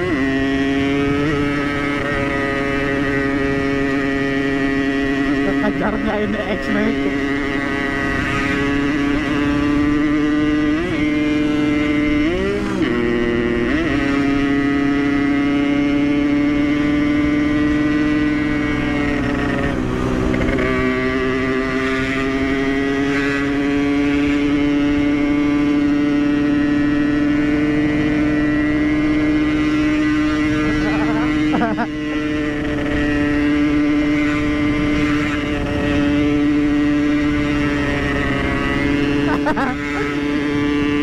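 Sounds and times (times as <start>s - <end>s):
two-stroke motorcycle engine revving: 0.0s - 41.0s.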